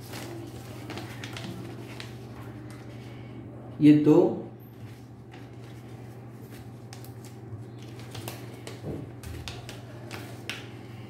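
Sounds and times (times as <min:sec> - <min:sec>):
paper rustling and crackling: 0:00.0 - 0:03.2, 0:04.8 - 0:11.0
steady low hum: 0:00.0 - 0:11.0.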